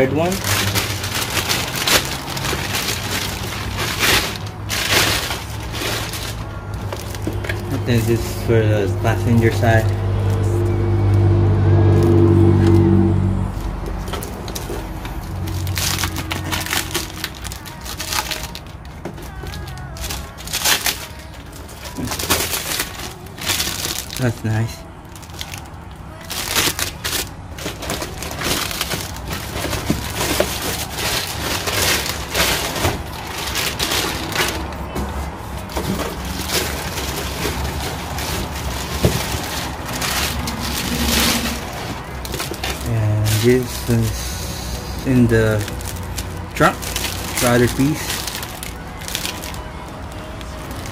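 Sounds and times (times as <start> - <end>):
foam packing creaking: 0.0 - 10.4, 13.6 - 50.9
plastic wrap crinkling: 0.0 - 10.4, 13.6 - 50.9.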